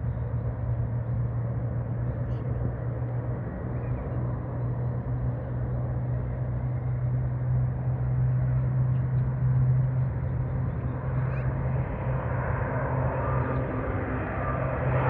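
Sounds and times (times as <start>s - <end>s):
aircraft engines running: 0.0s - 15.0s.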